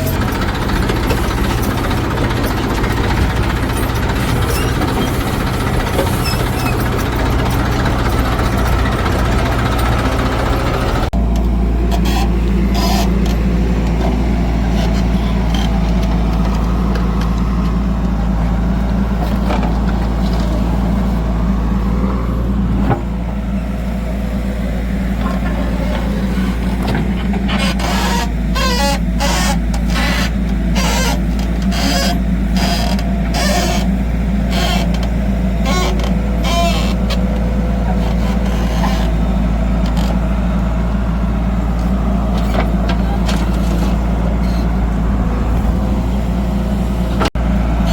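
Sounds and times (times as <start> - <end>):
heavy vehicle engine running: 0.0 - 47.9.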